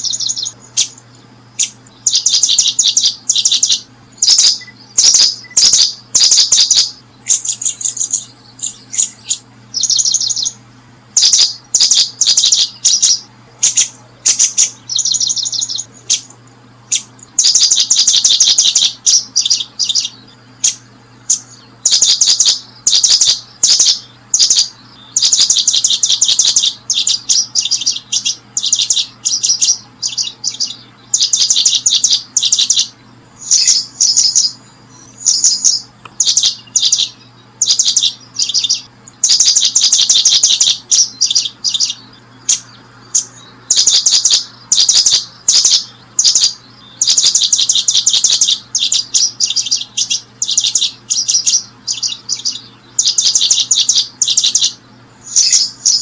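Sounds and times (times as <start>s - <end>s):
faint low hum: 0.0s - 56.0s
small birds chirping: 0.0s - 56.0s.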